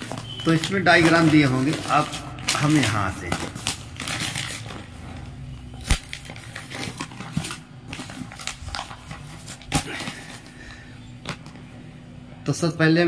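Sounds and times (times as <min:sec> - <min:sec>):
paper pages rustling: 0:00.0 - 0:11.7.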